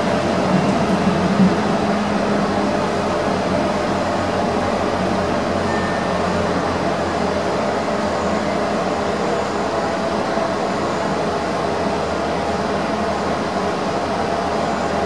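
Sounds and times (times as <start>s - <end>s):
train rolling along track: 0.0s - 15.0s.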